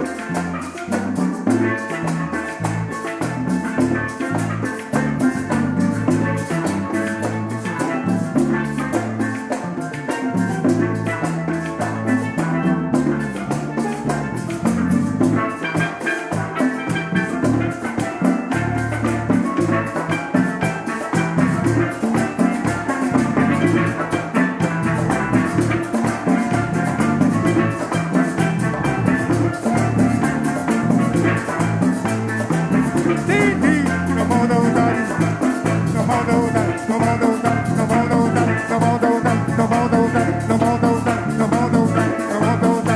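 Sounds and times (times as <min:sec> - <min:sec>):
latin-style percussion: 0:00.0 - 0:42.9
live band playing instrumental music: 0:00.0 - 0:42.9.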